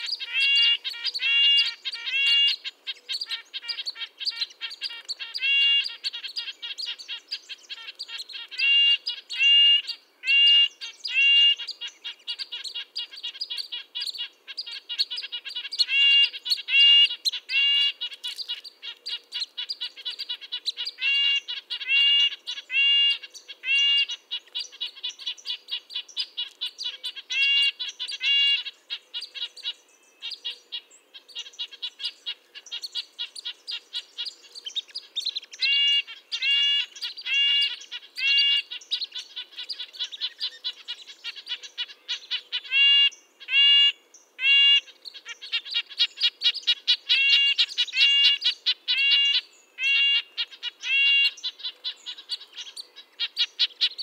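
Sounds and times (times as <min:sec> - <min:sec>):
nuthatch calling: 0:00.0 - 0:54.0.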